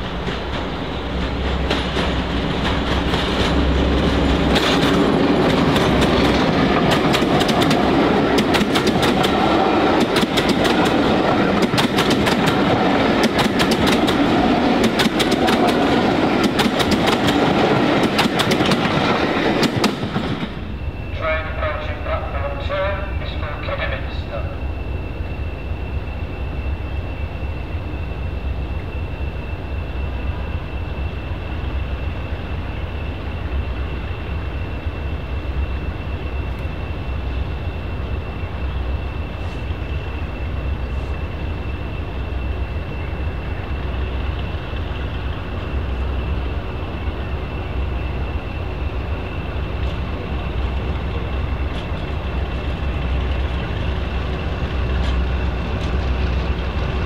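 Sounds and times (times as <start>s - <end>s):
diesel locomotive engine throbbing: 0.0s - 57.0s.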